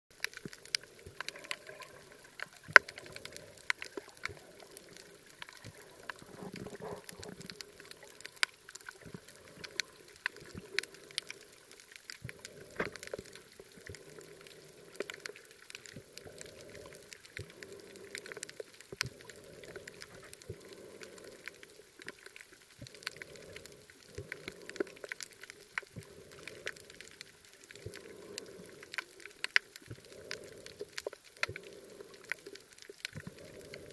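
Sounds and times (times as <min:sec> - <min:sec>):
underwater clicks and crackles: 0:00.1 - 0:33.9.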